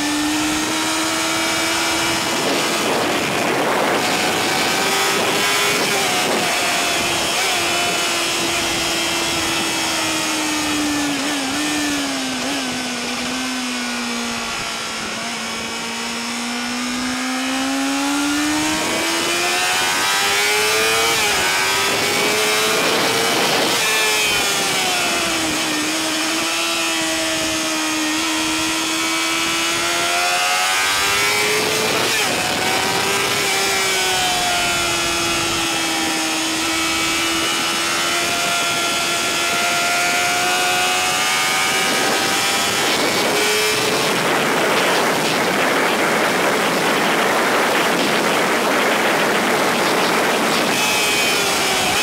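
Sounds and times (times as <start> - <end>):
motorcycle engine at high revs: 0.0 - 52.0
rushing wind: 0.0 - 52.0.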